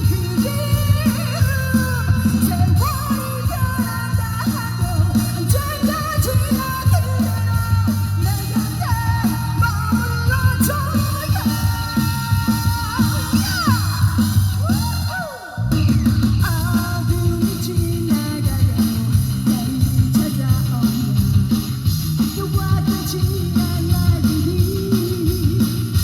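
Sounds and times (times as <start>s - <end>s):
live pop-rock band playing: 0.0s - 26.0s.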